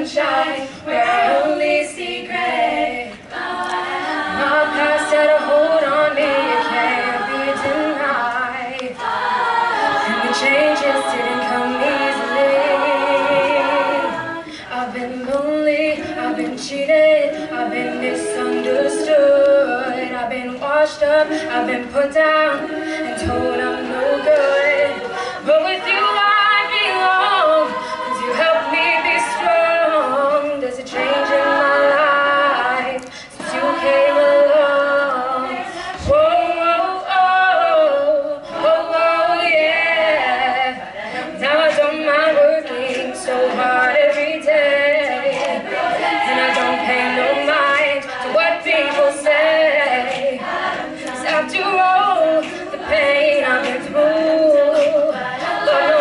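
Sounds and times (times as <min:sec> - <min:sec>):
female lead vocalist singing: 0:00.0 - 0:56.0
women singing backing vocals: 0:00.0 - 0:56.0.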